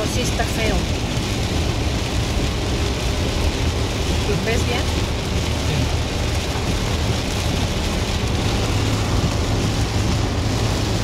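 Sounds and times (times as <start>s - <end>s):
low engine and road rumble: 0.0s - 11.0s
rain drumming on car: 0.0s - 11.0s
tyre noise on wet road: 0.0s - 11.0s.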